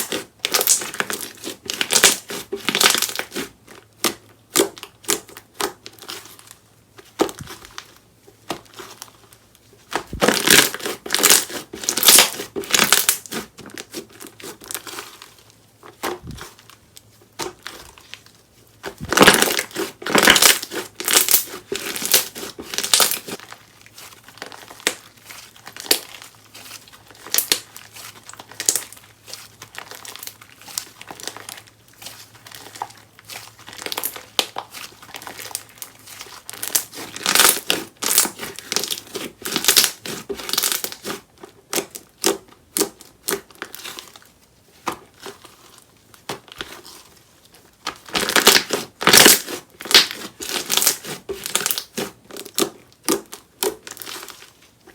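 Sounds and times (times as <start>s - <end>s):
slime being squished crackling: 0.0s - 9.1s, 9.9s - 16.7s, 17.3s - 44.3s, 47.8s - 54.7s.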